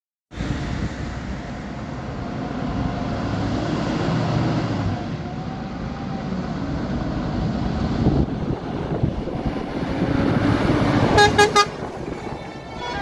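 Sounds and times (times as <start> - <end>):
truck diesel engine drone: 0.4 - 13.0.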